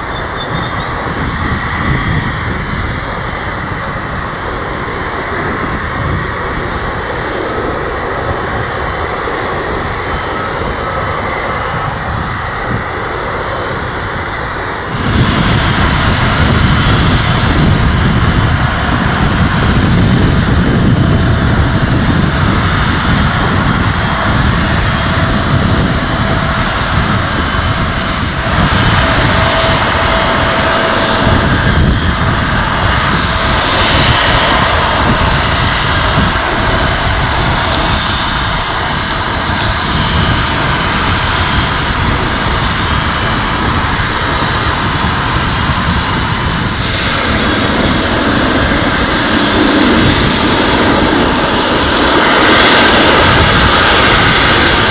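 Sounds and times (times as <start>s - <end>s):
jet engines at takeoff power: 0.0s - 54.9s.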